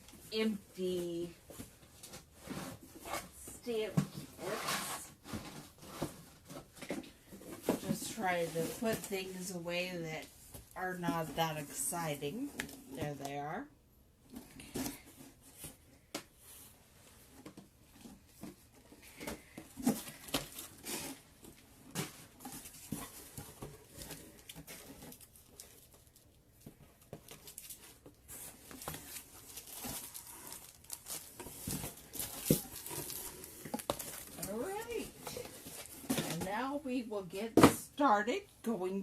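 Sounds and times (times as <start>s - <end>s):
plastic and paper crinkling: 0.1s - 13.2s, 16.5s - 37.0s.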